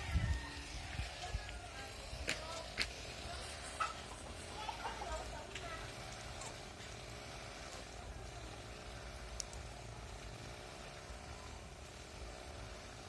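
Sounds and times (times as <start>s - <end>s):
drill motor hum: 0.0s - 13.0s.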